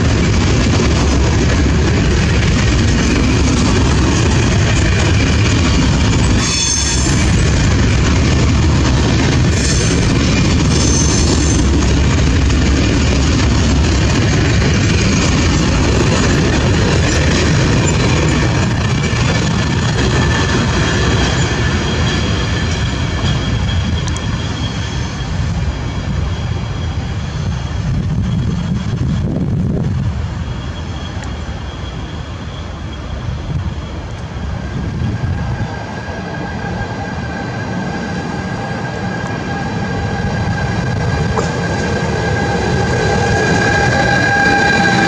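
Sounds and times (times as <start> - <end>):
freight train rumbling: 0.0 - 45.0
locomotive whine: 0.0 - 45.0.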